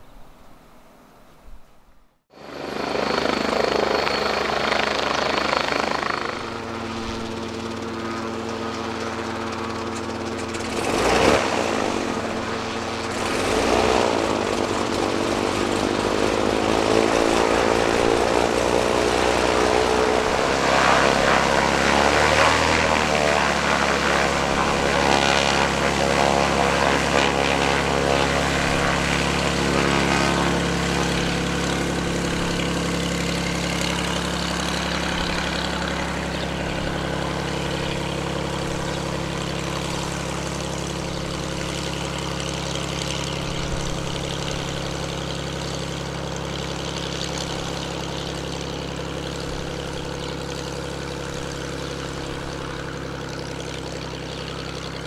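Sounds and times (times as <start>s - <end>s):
piston aircraft engine and propeller: 2.3s - 55.0s.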